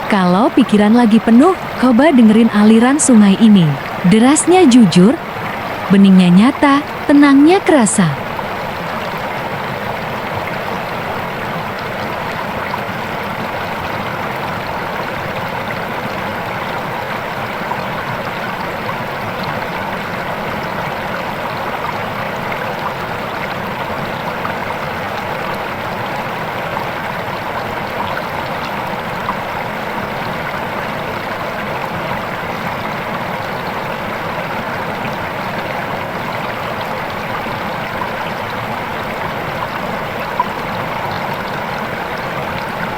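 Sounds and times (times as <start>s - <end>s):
river water rushing and splashing: 0.0s - 42.9s.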